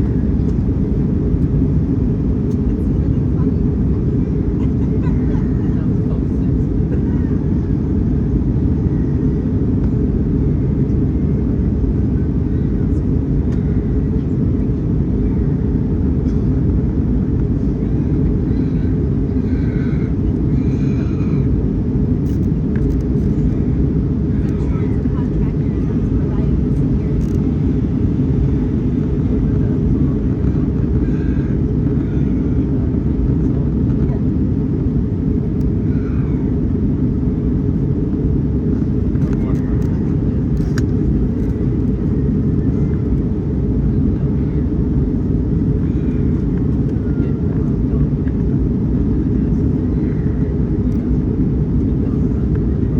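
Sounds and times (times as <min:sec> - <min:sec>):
airplane engine rumble in flight: 0:00.0 - 0:52.9.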